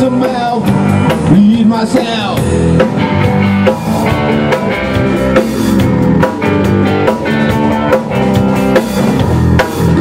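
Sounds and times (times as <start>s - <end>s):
distorted electric guitar chords: 0.0s - 10.0s
drum kit steady beat: 0.0s - 10.0s.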